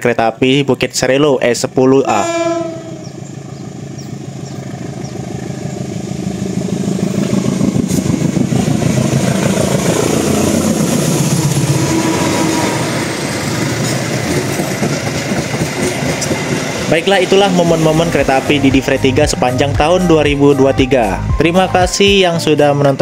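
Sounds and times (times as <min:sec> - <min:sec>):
diesel locomotive passing: 0:01.0 - 0:23.0
train coaches rolling by: 0:01.1 - 0:23.0.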